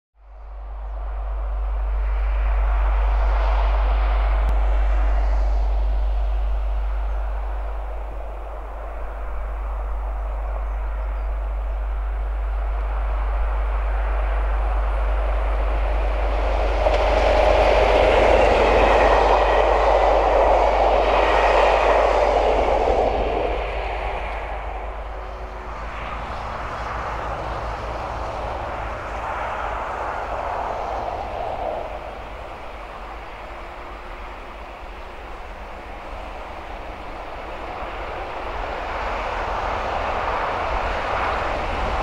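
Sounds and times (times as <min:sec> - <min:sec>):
diesel locomotives passing: 0:00.2 - 0:42.0.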